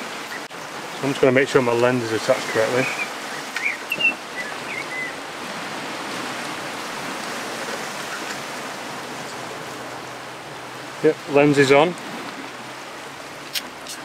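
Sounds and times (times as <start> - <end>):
waves washing over rocks: 0.0 - 14.0.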